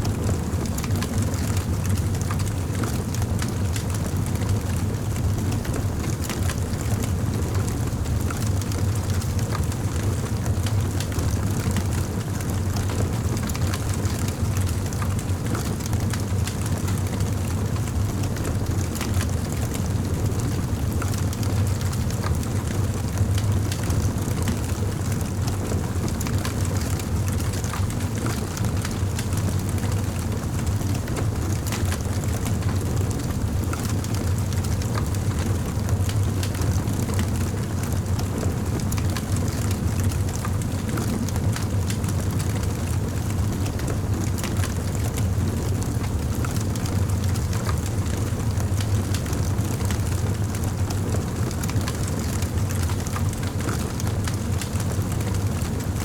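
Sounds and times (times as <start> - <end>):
burning wood crackling and popping: 0.0 - 6.9, 12.1 - 56.0
campfire rumbling: 0.0 - 7.6, 8.6 - 56.0.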